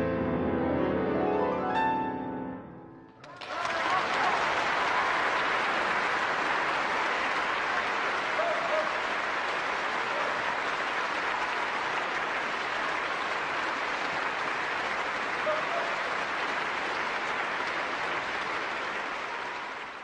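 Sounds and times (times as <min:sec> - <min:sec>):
audience applauding: 0:03.2 - 0:20.0.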